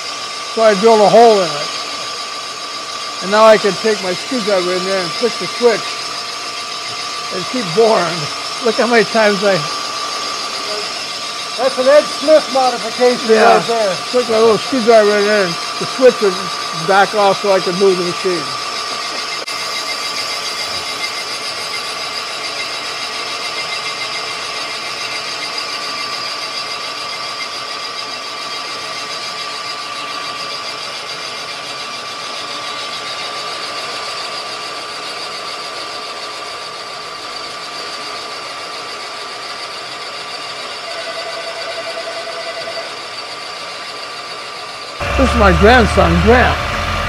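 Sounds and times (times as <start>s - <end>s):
boring bar machine cutting metal: 0.0s - 47.0s.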